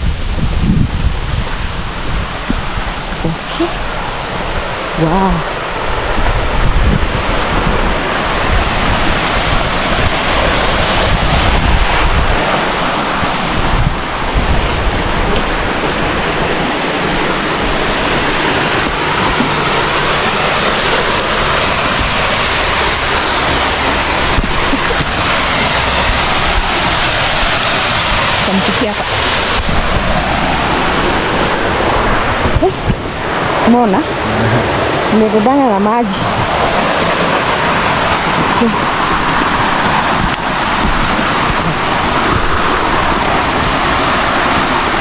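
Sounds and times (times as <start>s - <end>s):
waterfall rushing: 0.0s - 45.0s
wind buffeting microphone: 0.0s - 45.0s.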